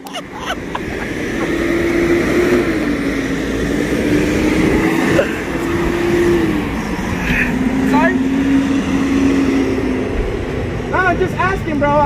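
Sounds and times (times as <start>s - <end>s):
truck passing by: 0.0s - 12.0s.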